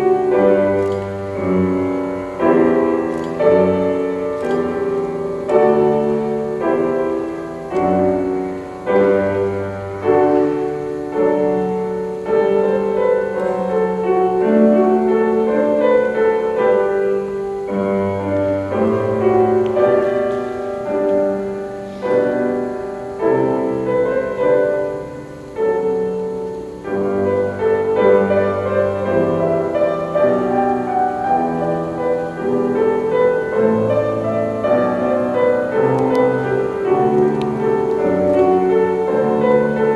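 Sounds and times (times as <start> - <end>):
slow classical piano chords: 0.0 - 39.9.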